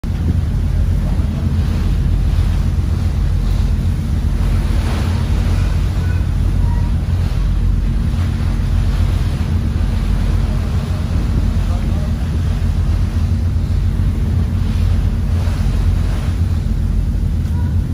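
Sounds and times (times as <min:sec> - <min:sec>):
sea water rushing: 0:00.0 - 0:17.9
wind rumbling on microphone: 0:00.0 - 0:17.9.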